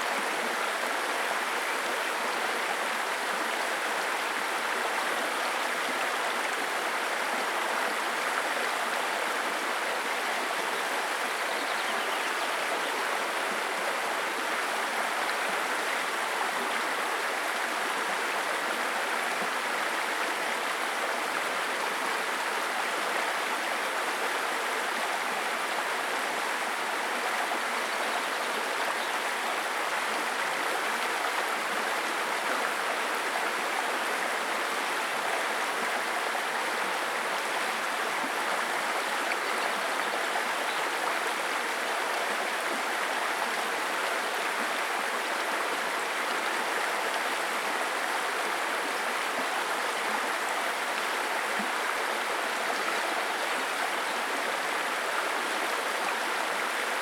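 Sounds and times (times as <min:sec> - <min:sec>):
stream burbling over stones: 0:00.0 - 0:57.0.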